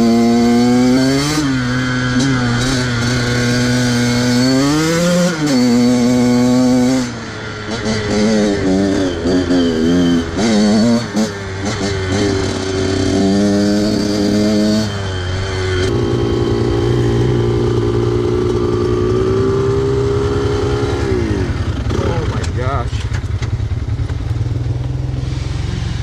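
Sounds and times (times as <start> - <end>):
off-road vehicle engine revving: 0.0 - 23.2, 24.4 - 26.0.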